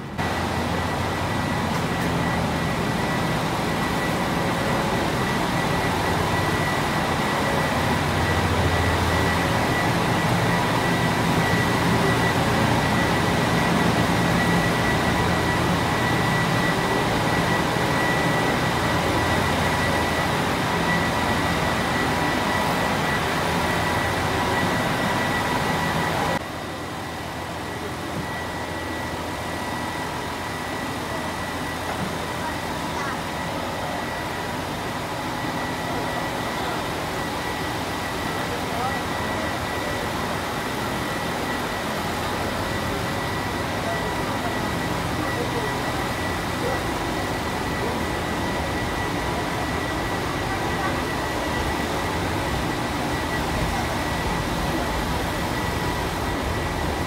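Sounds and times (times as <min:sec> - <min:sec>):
diesel train engine rumble: 0:00.0 - 0:26.6, 0:32.4 - 0:57.0
thin high whine: 0:00.0 - 0:57.0.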